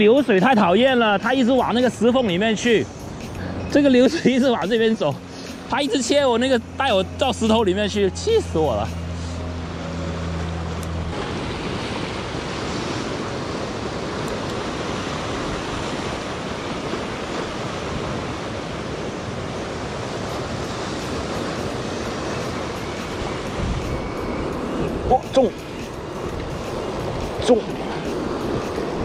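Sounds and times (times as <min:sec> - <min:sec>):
ocean swell washing over rock: 0:00.0 - 0:29.0.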